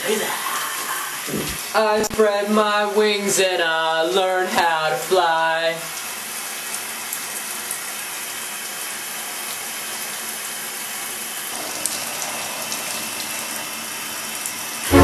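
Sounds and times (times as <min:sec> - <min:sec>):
shower water running: 0:00.0 - 0:15.0.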